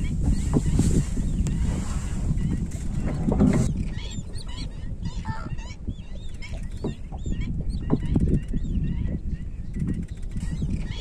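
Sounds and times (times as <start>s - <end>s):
birds honking and chirping: 0.0s - 11.0s.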